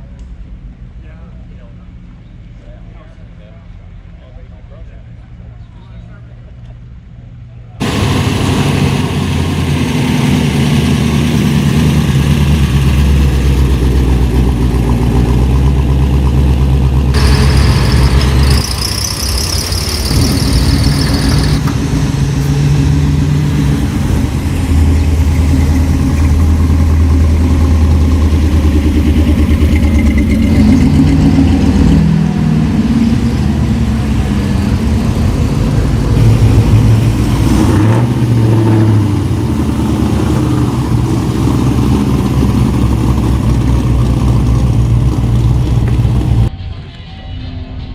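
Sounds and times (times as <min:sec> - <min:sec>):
car engines idling and revving: 0:00.0 - 0:46.5
high whine: 0:07.8 - 0:47.9.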